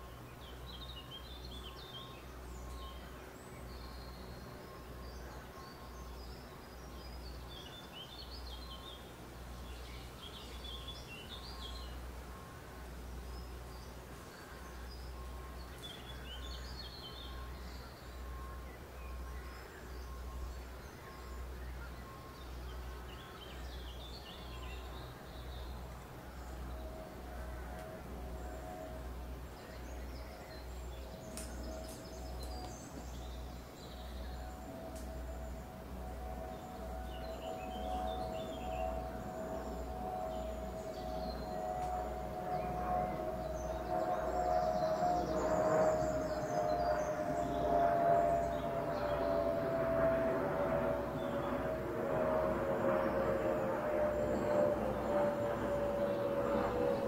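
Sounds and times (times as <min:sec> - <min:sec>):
songbirds chirping and singing: 0:00.0 - 0:12.3, 0:12.9 - 0:52.2
low steady rumble: 0:00.0 - 0:57.0.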